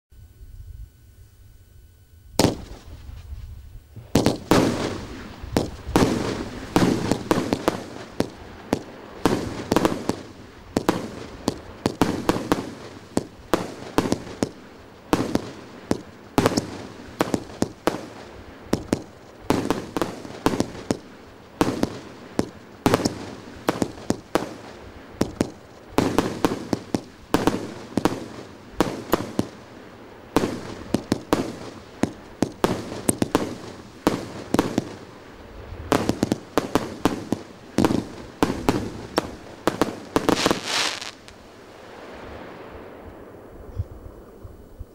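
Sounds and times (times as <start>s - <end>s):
fireworks launching and bursting: 2.4s - 44.3s.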